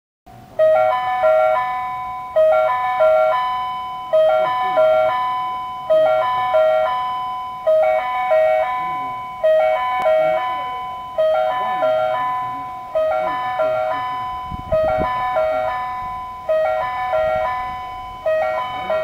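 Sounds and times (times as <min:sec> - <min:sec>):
train approach chime over loudspeaker: 0:00.4 - 0:19.0.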